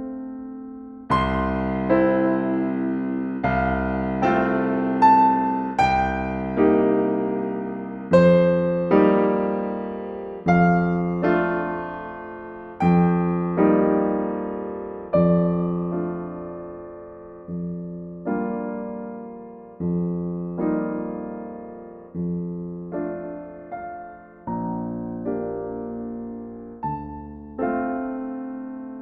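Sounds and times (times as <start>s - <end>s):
gentle solo piano music: 0.0s - 29.0s.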